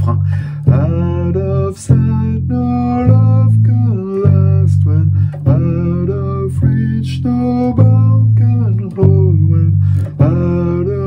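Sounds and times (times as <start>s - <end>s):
electric bass played fingerstyle: 0.0s - 11.0s
person singing: 0.0s - 11.0s.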